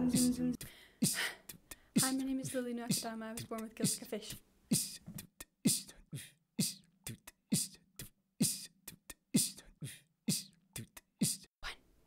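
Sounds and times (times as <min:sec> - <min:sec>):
beatboxing: 0:00.0 - 0:11.8.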